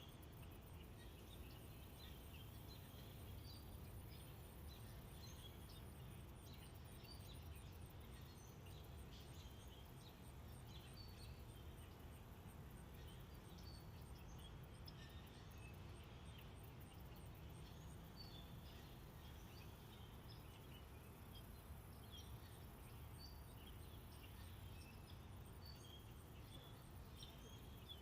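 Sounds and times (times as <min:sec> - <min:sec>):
bird chirps: 0:00.0 - 0:28.0.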